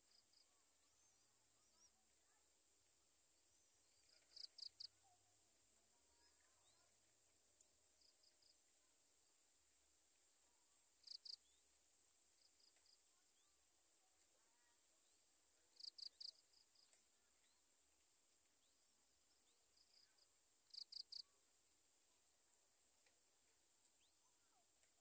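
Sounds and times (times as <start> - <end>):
faint insect chorus hum: 0.0 - 25.0.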